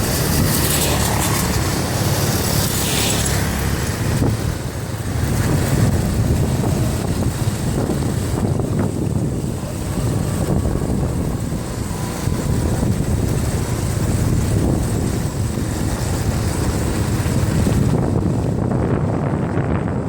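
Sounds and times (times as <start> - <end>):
atv engine running: 0.0 - 20.0
wind buffeting microphone: 0.0 - 20.0.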